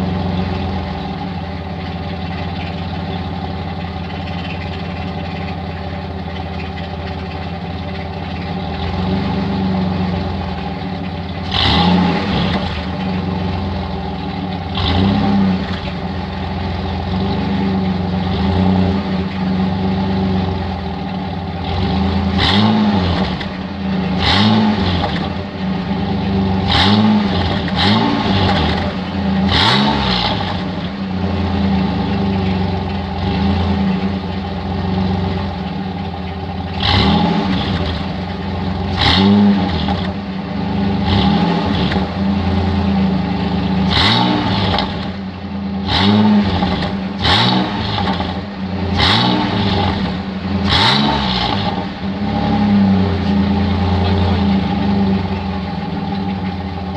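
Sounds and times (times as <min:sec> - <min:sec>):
engine idling with throttle blips: 0:00.0 - 0:56.9.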